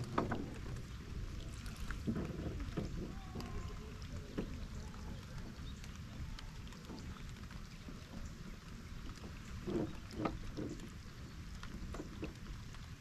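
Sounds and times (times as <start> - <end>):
light rain: 0.0 - 13.0
water lapping against boat hull: 0.0 - 13.0.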